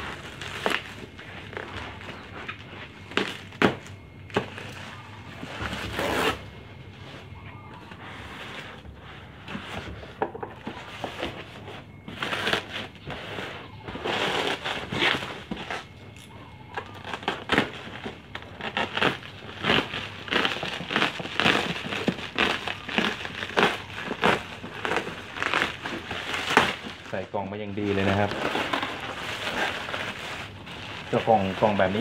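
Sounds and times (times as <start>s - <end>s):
bubble wrap and tape crinkling: 0.0s - 32.0s.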